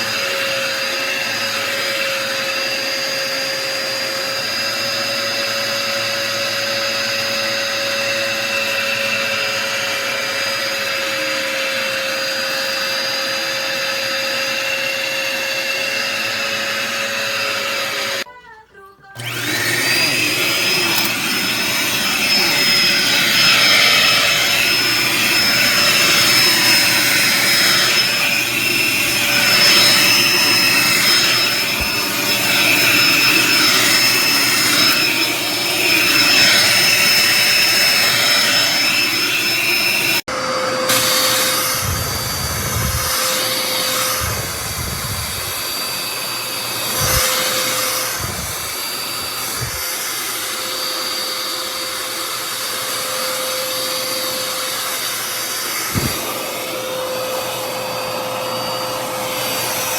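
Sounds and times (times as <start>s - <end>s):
vacuum cleaner motor whine: 0.0s - 18.3s, 19.2s - 59.9s.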